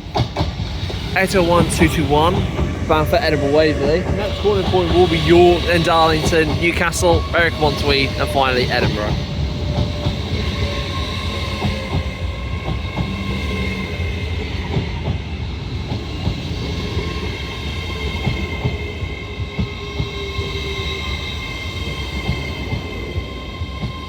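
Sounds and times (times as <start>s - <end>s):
train high whine: 0.0s - 24.0s
train low rumble: 0.0s - 24.0s
train wheels clicking over joints: 0.0s - 24.0s.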